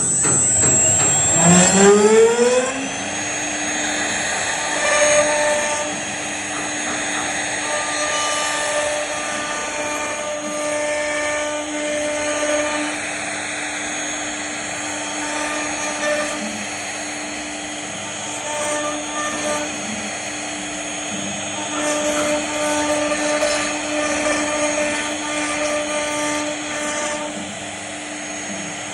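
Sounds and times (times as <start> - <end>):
router spindle carving wood: 0.0 - 28.9.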